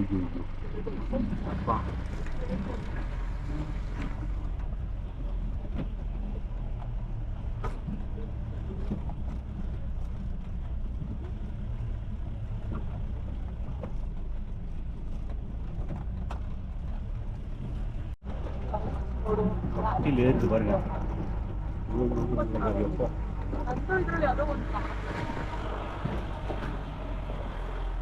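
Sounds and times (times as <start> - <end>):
diesel engine droning: 0.0 - 28.0
vehicle knocks and rattles: 0.5 - 28.0.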